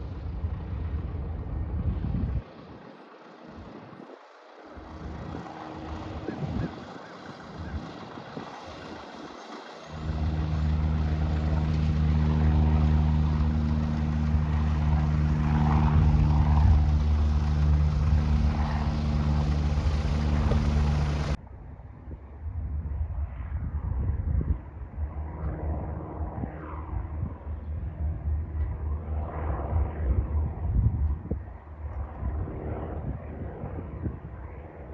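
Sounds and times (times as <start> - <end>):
propeller airplane engine drone: 0.0 - 34.9.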